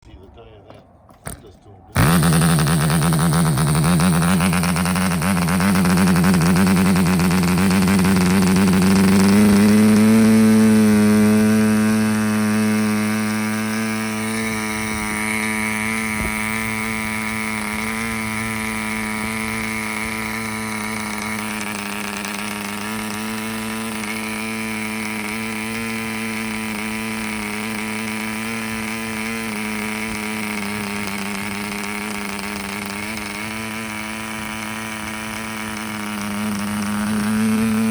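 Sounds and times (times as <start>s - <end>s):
model engine running high pitch: 1.3s - 37.9s.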